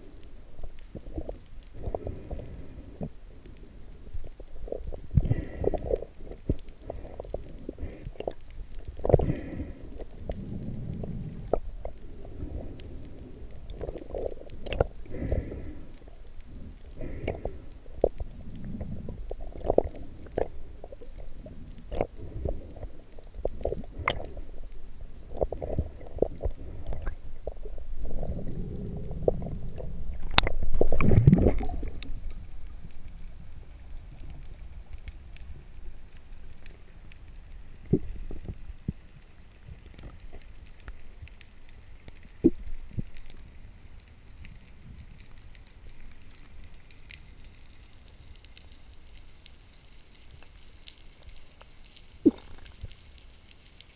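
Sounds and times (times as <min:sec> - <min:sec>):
muffled underwater water rumbling: 0:00.0 - 0:47.6, 0:50.4 - 0:53.8
sharp underwater clicks: 0:00.2 - 0:53.9.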